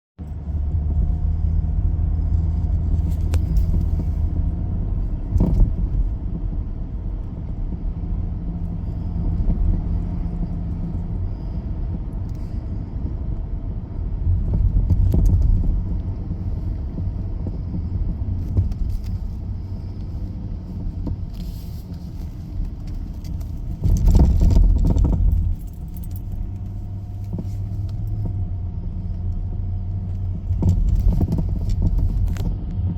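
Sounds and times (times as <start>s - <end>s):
car engine and road rumble: 0.2s - 32.9s
car knocks and rattles: 2.2s - 32.9s.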